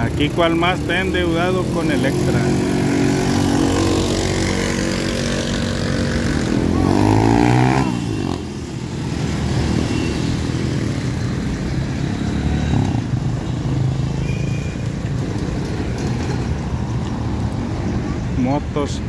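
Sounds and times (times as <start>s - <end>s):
cars passing: 0.0s - 19.0s
motorcycles passing: 0.0s - 19.0s.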